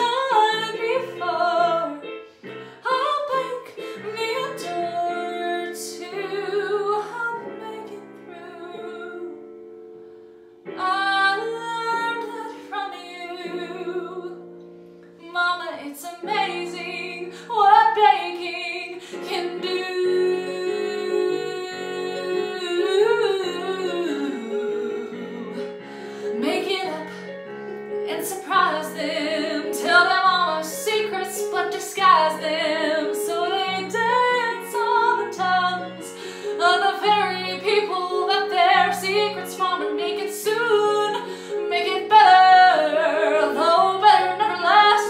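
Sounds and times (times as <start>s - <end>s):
woman singing ballad: 0.0s - 9.6s, 10.7s - 14.6s, 15.2s - 45.0s.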